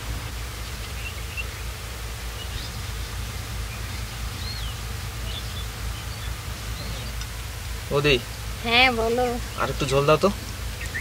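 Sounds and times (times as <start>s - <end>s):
faint bird chirps: 0.0s - 7.5s, 9.4s - 11.0s
steady low rumble: 0.0s - 11.0s.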